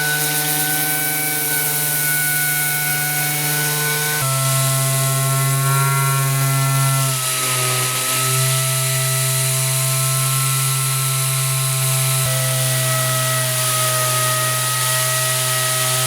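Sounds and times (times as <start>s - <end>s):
orbital sander humming and whining: 0.0s - 16.0s.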